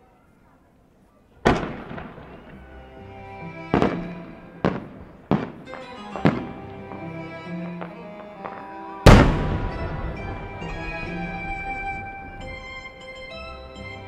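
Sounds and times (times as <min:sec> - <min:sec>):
fireworks bangs: 0:01.4 - 0:13.5
music: 0:01.5 - 0:14.0.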